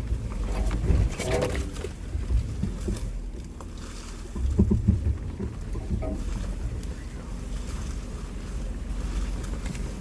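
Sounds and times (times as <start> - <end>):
engine and drivetrain rumble: 0.0 - 10.0
knocks and rattles over rocks: 0.0 - 10.0.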